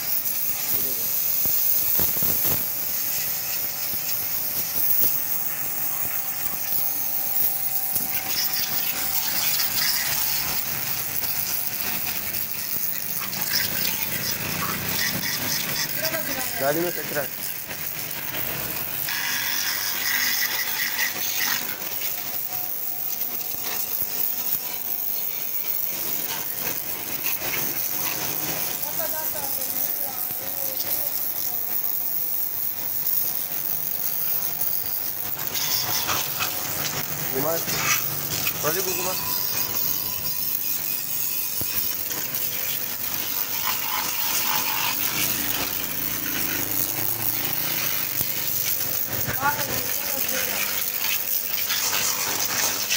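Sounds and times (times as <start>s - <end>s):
pressure washer jet hitting metal: 0.0s - 32.0s, 32.9s - 52.9s.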